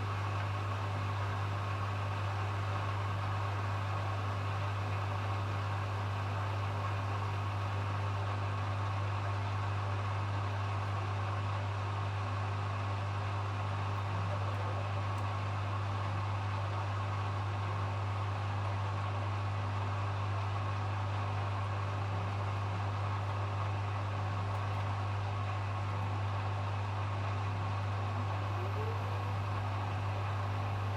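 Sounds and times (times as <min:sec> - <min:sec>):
washing machine running: 0:00.0 - 0:30.9.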